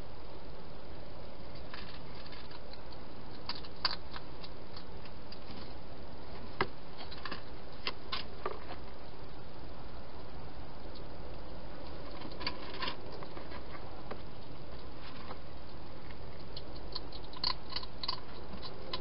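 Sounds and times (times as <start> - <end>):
hedgehog chewing: 1.5 - 9.4, 10.9 - 19.0.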